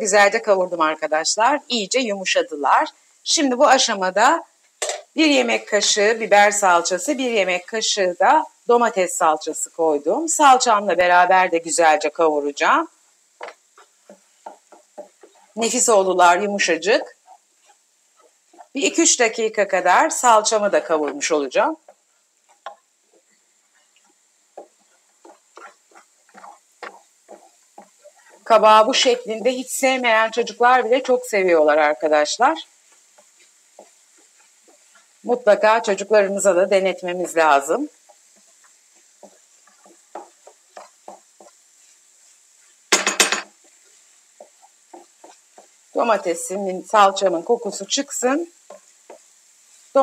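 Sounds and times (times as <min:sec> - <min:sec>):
wooden spoon scraping a pan: 0:08.6 - 0:50.0.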